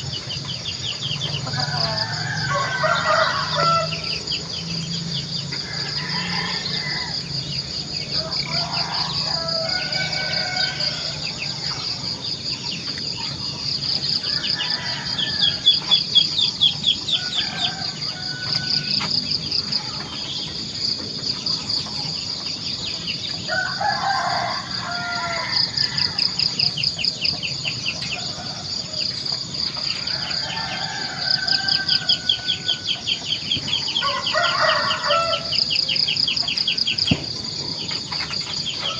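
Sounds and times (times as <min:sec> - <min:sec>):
roosters crowing: 0:01.0 - 0:12.2, 0:13.9 - 0:22.4, 0:23.1 - 0:38.9.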